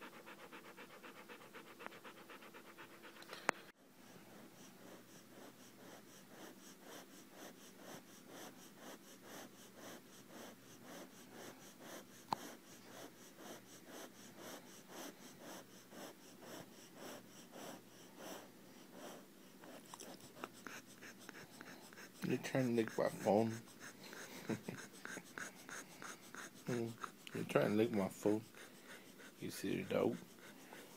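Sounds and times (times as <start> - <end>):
dog panting: 0.0 - 30.9.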